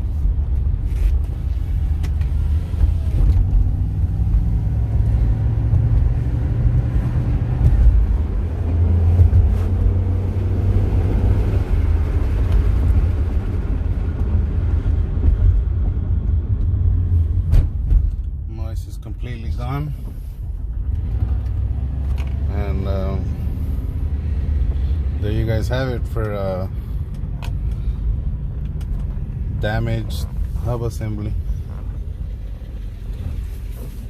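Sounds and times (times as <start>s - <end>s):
car tyres and engine rumble: 0.0s - 34.0s.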